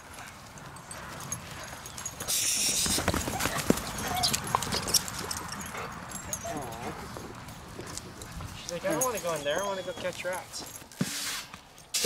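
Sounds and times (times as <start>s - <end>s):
dog paws thumping on dirt: 0.2s - 11.2s.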